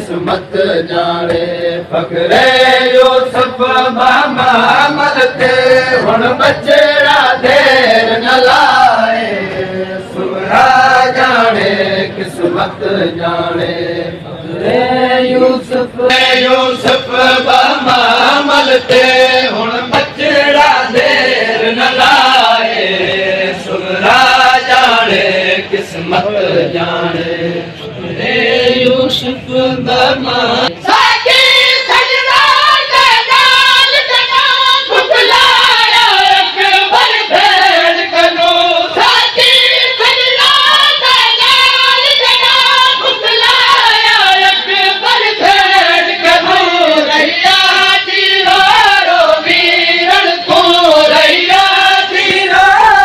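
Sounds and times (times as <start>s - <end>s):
crowd singing along: 0.0s - 53.0s
men chanting a lament: 0.0s - 53.0s.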